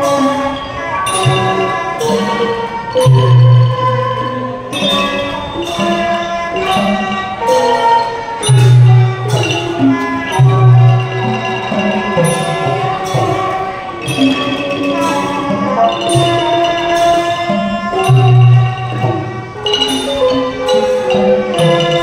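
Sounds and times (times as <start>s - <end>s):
gong circles: 0.0s - 22.0s
loud low held notes: 0.0s - 22.0s
percussion: 0.0s - 22.0s
xylophone melody: 0.0s - 22.0s.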